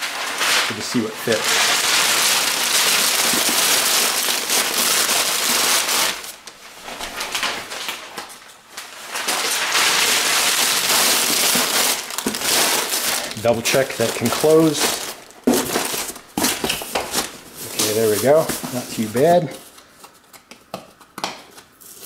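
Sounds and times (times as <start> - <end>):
packing paper crumpling: 0.0 - 19.9.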